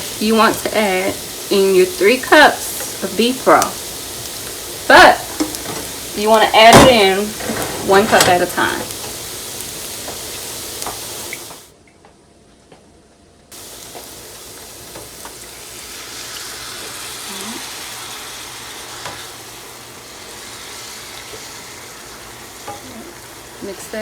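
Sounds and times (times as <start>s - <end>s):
broth poured into hot pan sizzling: 0.0s - 11.7s, 13.5s - 24.0s
onions sizzling in a frying pan: 0.0s - 11.7s, 13.5s - 24.0s.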